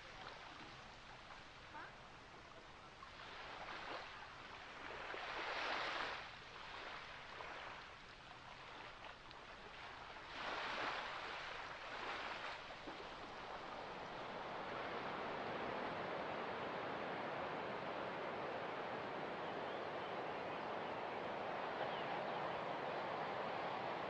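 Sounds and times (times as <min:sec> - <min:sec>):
ocean waves washing onto beach: 0:00.0 - 0:24.0.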